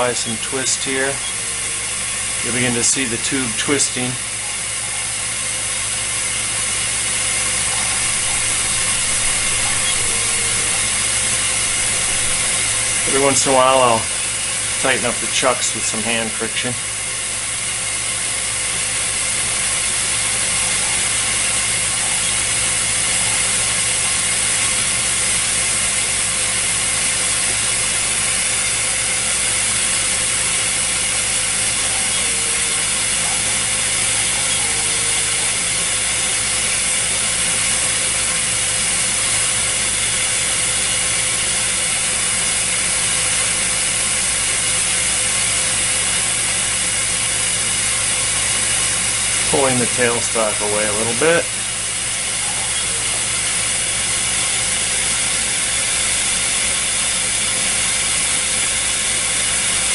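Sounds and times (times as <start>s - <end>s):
gas burner hissing: 0.0s - 59.9s
lathe drive humming: 0.0s - 59.9s.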